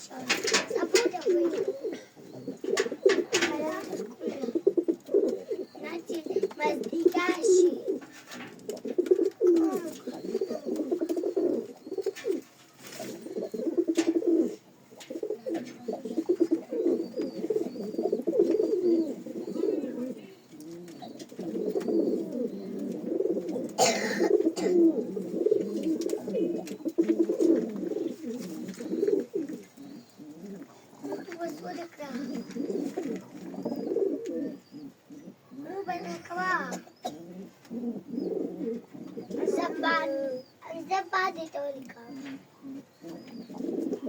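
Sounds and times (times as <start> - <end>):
pigeons cooing: 0.0 - 44.0.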